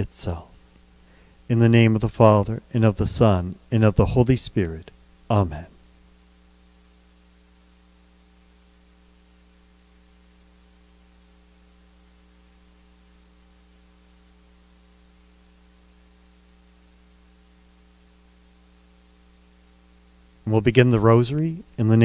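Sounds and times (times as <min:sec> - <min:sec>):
faint electrical hum: 0:00.0 - 0:22.0
light hiss: 0:00.0 - 0:22.0.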